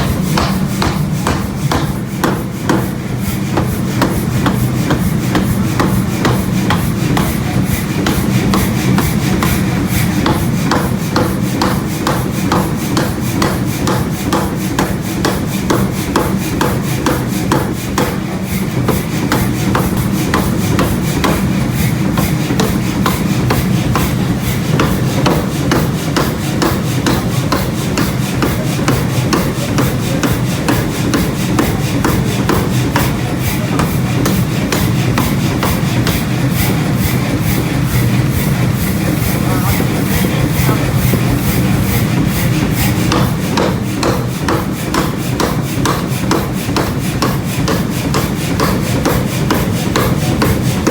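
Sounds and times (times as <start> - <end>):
forging hammer striking steel: 0.0 - 50.9
low machine hum: 0.0 - 50.9.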